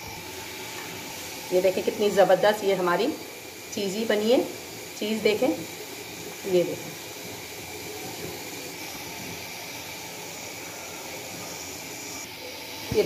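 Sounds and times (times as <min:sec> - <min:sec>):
steady even hiss: 0:00.0 - 0:13.0.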